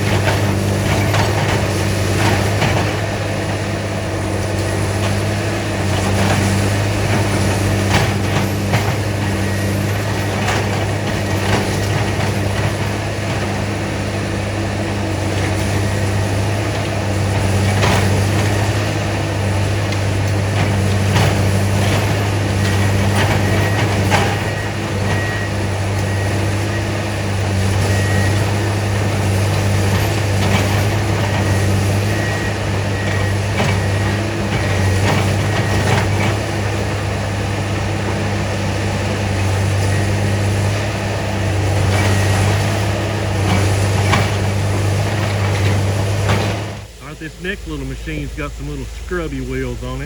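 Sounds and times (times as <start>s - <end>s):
diesel engines running: 0.0s - 50.0s.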